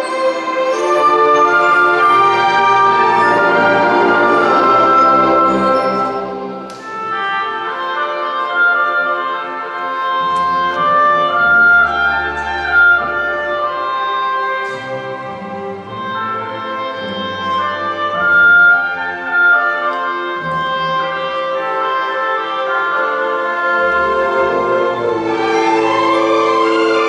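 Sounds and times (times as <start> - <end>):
orchestra playing classical music: 0.0 - 27.0.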